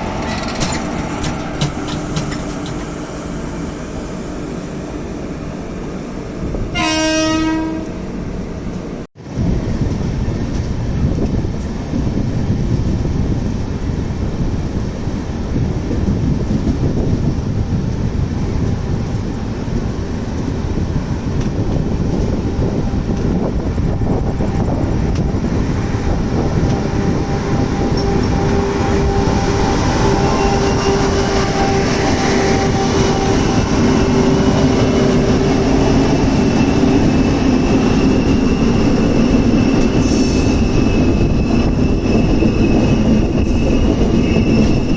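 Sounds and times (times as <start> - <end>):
train rumbling on rails: 0.0 - 44.9.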